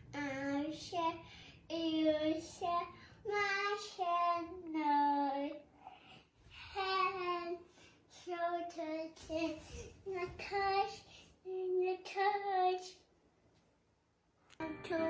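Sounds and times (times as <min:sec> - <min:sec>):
girl singing in high voice: 0:00.0 - 0:05.6, 0:06.5 - 0:13.0, 0:14.6 - 0:15.0.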